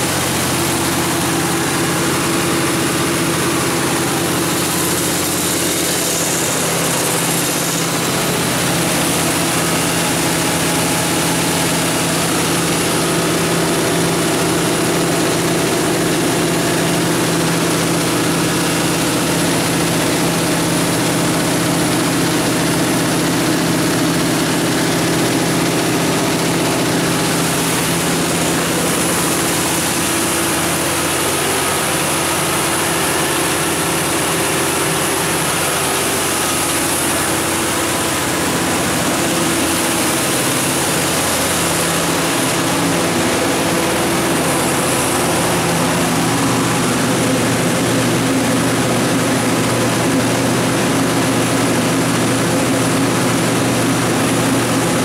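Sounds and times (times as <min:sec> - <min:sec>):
generator engine drone: 0:00.0 - 0:55.0.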